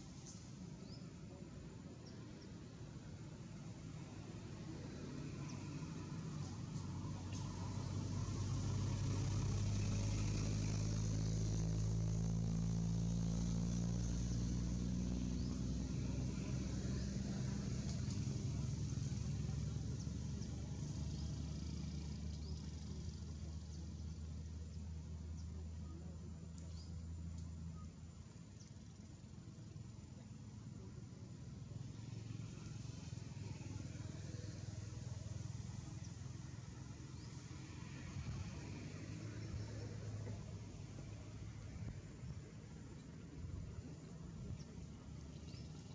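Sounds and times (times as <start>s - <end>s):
engine running at low speed: 0.0s - 45.9s.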